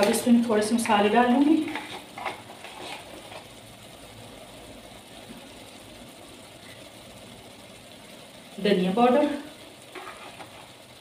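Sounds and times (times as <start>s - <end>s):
sauce simmering and sizzling in a pot: 0.0s - 11.0s.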